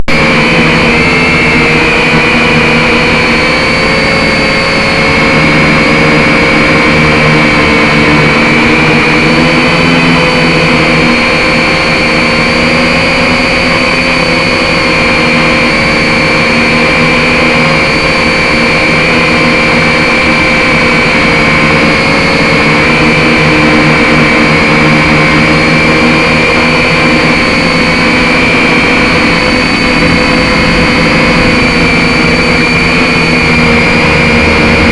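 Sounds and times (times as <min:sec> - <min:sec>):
drone propellers whirring: 0:00.0 - 0:34.9.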